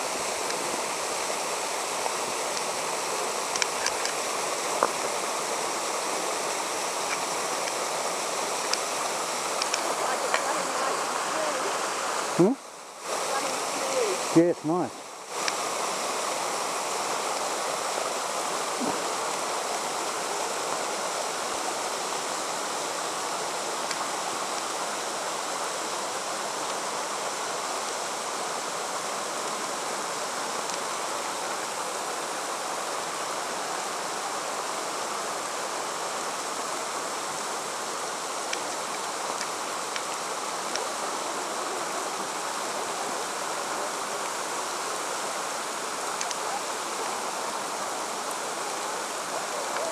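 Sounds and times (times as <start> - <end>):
water running down rock: 0.0 - 49.9.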